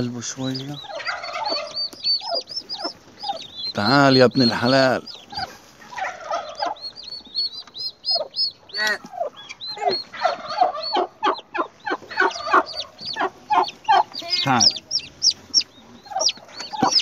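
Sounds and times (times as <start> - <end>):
turkey hen clucking: 0.0 - 17.0
turkey poults peeping: 0.0 - 17.0.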